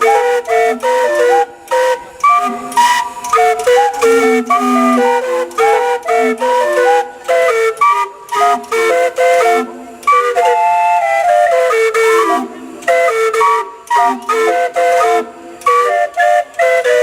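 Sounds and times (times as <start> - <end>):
steam hissing: 0.0 - 17.0
steam whistles playing a tune: 0.0 - 17.0.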